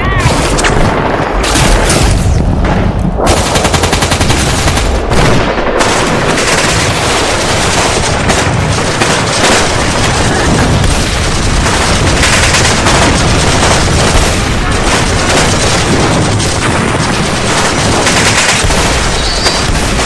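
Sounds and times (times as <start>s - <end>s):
explosion booms: 0.1s - 3.6s, 4.4s - 20.0s
machine-gun fire: 0.2s - 20.0s.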